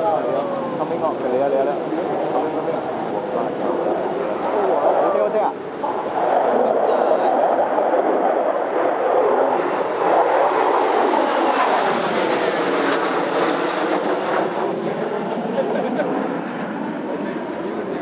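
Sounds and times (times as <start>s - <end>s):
fighter jets flying over: 0.0s - 18.0s.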